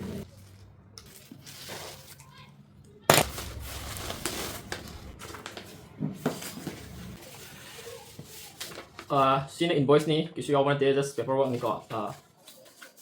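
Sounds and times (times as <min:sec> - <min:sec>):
cardboard and paper rustling: 0:00.2 - 0:09.4, 0:11.2 - 0:13.0.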